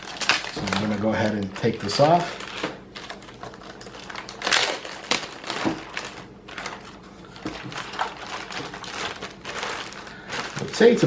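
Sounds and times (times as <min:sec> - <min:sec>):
packaging wrap crinkling: 0:00.0 - 0:11.0.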